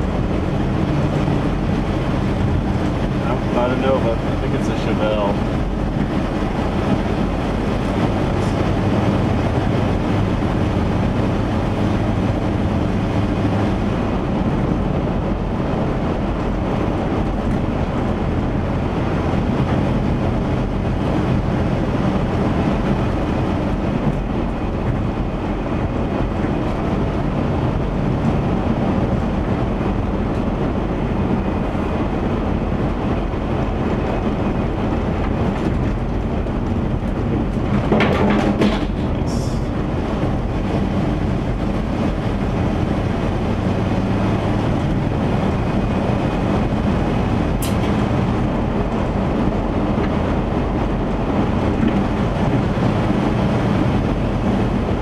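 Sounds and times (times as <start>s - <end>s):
road rumble: 0.0s - 55.0s
van engine drone: 0.0s - 55.0s.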